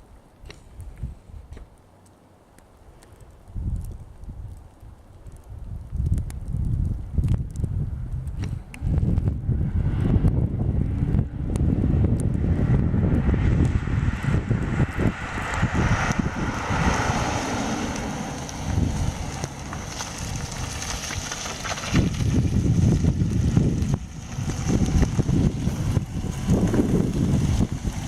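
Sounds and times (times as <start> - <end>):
blizzard wind buffeting microphone: 2.7 - 28.0.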